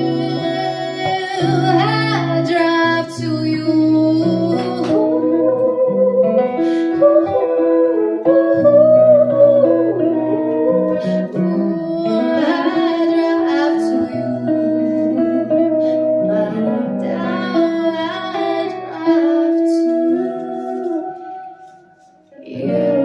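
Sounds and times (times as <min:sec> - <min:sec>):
dream-pop song on guitar: 0:00.0 - 0:23.0
woman singing: 0:00.0 - 0:23.0.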